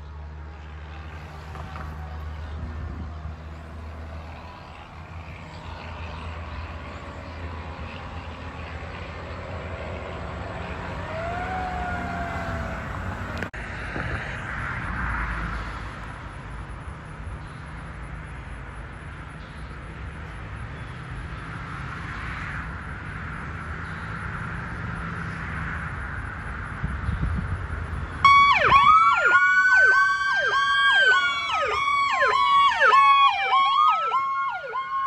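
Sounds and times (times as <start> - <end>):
outdoor background noise: 0.0 - 35.0.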